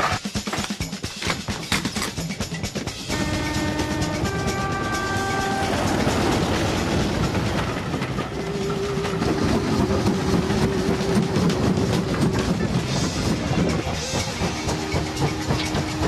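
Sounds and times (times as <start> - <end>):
steam locomotive: 0.0 - 16.0
wheels clattering over rail joints: 0.0 - 16.0.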